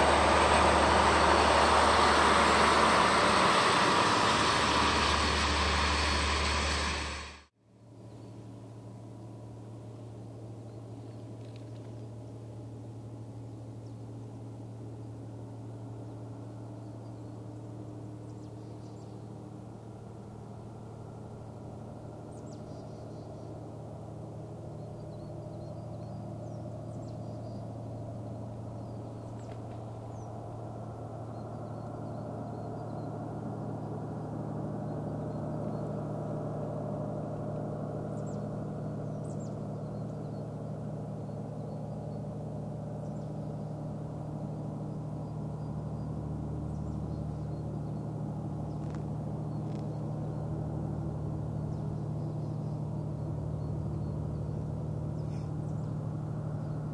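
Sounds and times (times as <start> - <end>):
diesel train engine humming: 0.0 - 7.5, 15.4 - 56.9.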